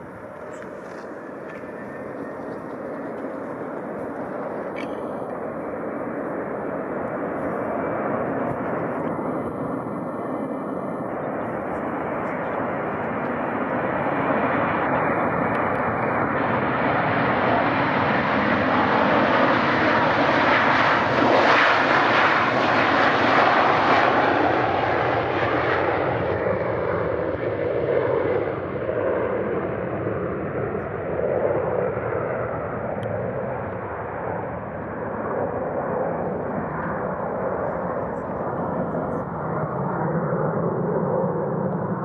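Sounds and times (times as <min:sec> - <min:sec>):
airliner engines passing: 0:00.0 - 0:42.0.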